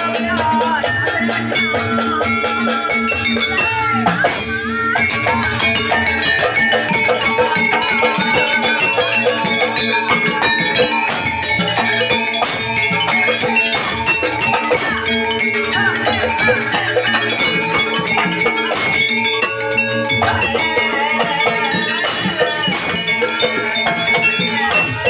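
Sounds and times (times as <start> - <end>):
folk ensemble percussion: 0.0 - 25.0
wavering melody lines: 0.0 - 25.0.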